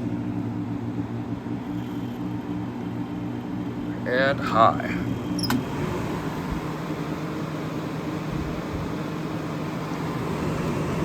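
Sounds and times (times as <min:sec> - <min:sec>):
air conditioner fan rushing: 0:00.0 - 0:11.0.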